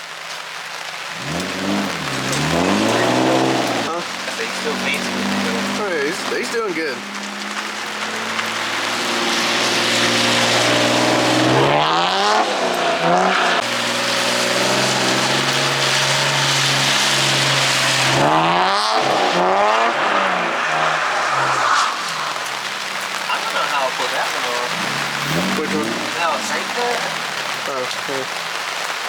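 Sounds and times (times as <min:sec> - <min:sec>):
rain hiss: 0:00.0 - 0:29.0
car engine revving high: 0:01.2 - 0:28.4.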